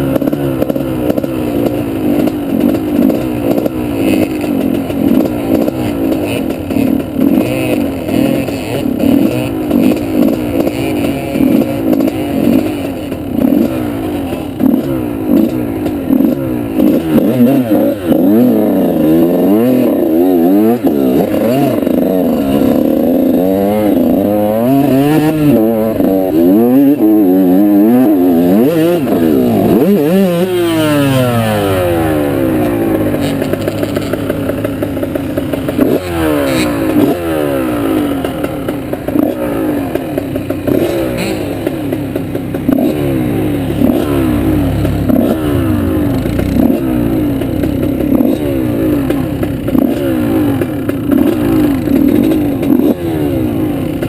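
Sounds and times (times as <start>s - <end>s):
off-road motorbike engine revving: 0.0s - 54.0s.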